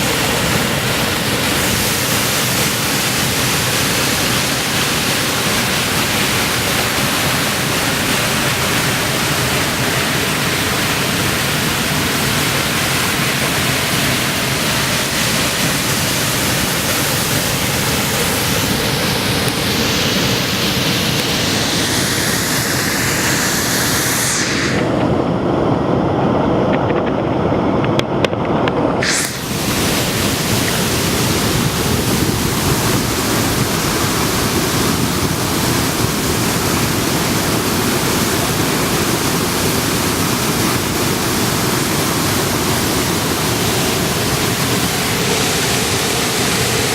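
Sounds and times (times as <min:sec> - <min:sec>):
waterfall rushing: 0:00.0 - 0:25.8, 0:29.0 - 0:46.9.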